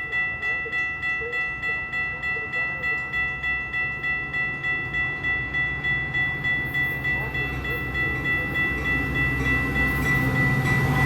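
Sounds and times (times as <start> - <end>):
crossing warning bell ringing: 0.0 - 11.0
train rumbling: 0.0 - 11.0.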